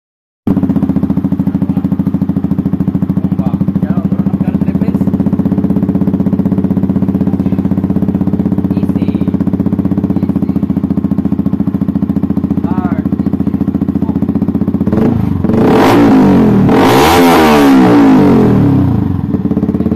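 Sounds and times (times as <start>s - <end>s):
motorcycle engine idling: 0.5s - 19.9s.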